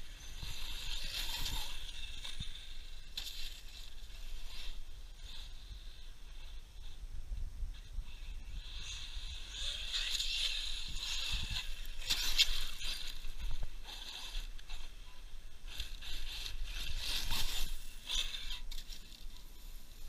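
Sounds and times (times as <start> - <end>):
electric motor whining: 0.0 - 6.9, 7.8 - 20.0.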